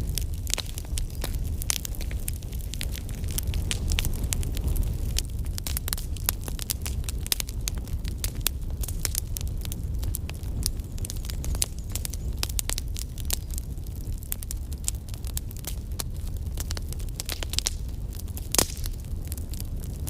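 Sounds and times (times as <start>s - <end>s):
sharp pops of fire: 0.0s - 20.0s
wood fire crackling: 0.0s - 20.0s.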